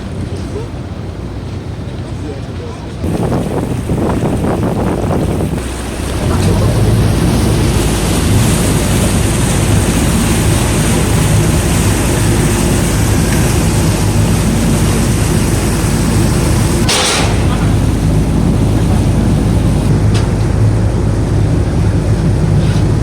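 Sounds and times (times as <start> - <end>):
boat engine humming: 0.0 - 23.0
wind: 0.0 - 23.0
water rushing: 3.0 - 23.0.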